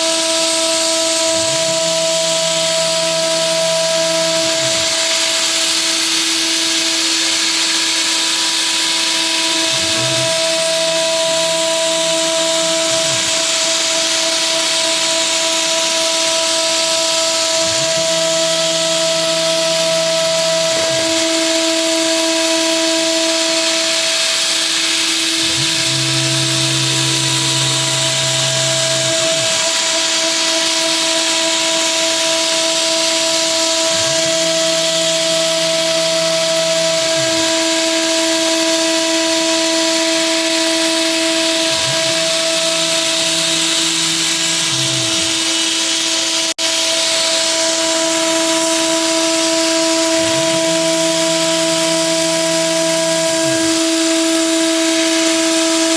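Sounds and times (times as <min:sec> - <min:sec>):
axis motors humming: 0:00.0 - 0:55.9
spindle whine: 0:00.0 - 0:55.9.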